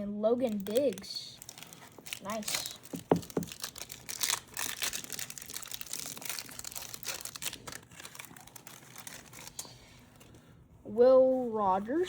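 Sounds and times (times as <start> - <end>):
foil pack crinkling: 0.4 - 10.5.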